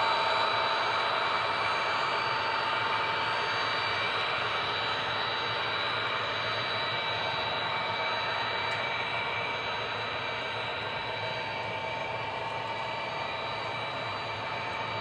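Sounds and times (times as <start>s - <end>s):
model train whirring hum: 0.0s - 15.0s.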